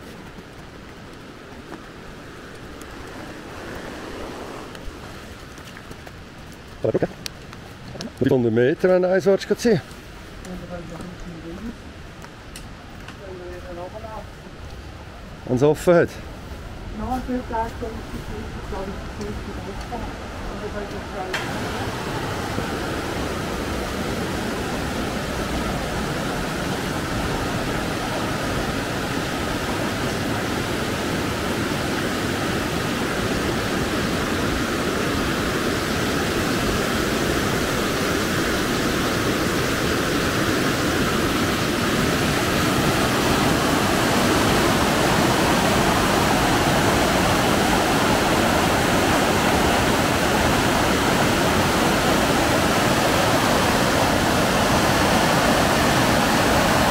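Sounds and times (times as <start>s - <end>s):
flowing water rushing: 0.0s - 12.7s, 13.3s - 56.9s.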